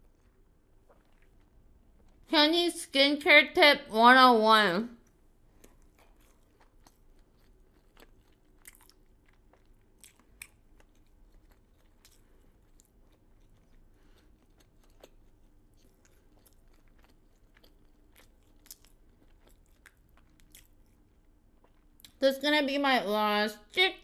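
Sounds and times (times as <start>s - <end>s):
chewing crispy fried chicken: 0.0s - 2.4s, 4.9s - 23.0s.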